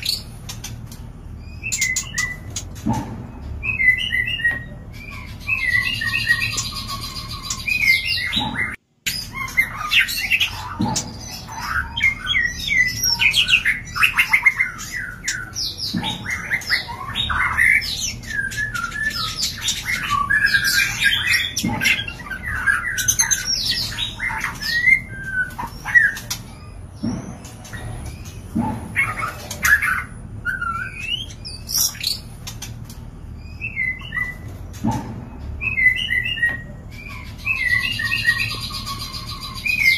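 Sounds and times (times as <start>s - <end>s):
bird singing and calling: 0.0s - 39.9s.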